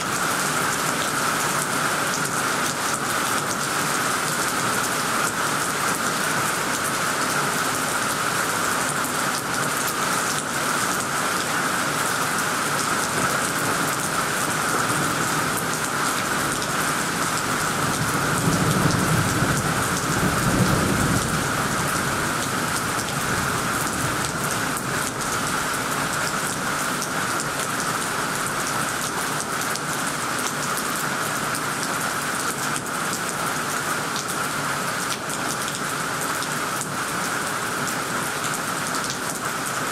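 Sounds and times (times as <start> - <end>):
heavy rain on leaves and roof: 0.0 - 39.9.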